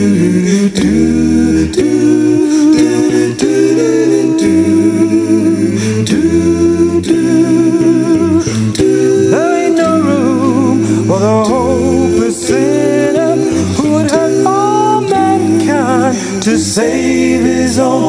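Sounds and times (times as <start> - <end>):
male vocal group singing harmony: 0.0 - 18.0.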